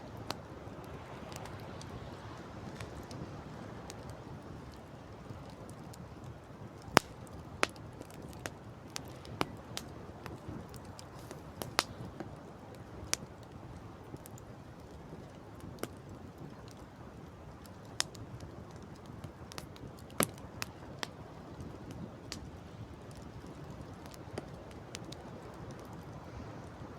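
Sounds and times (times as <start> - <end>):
campfire crackling and popping: 0.0 - 26.9
sea: 0.0 - 26.9
wind: 0.0 - 26.9.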